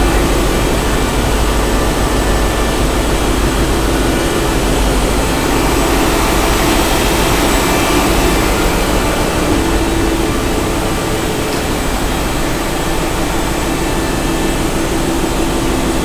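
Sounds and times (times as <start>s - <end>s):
marine engines roaring: 0.0s - 16.0s.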